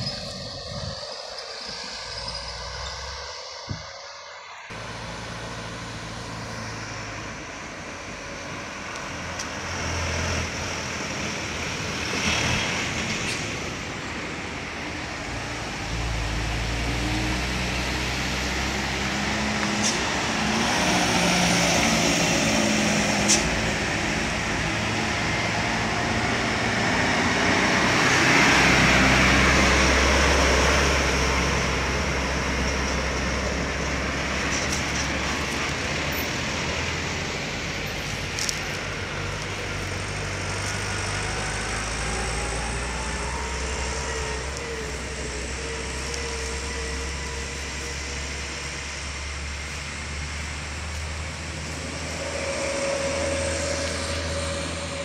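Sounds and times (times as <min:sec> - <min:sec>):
trucks passing at full throttle: 0:00.0 - 0:55.0.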